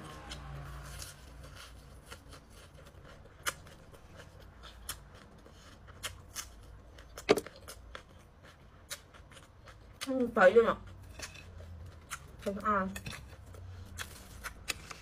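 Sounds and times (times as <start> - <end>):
chewing and crunching vegetables: 0.0 - 15.0.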